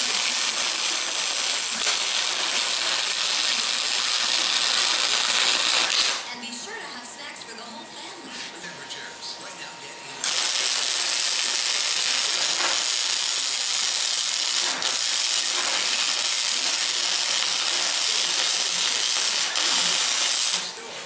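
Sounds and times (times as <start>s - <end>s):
welding arc hissing sizzle: 0.0s - 6.3s, 10.2s - 21.0s.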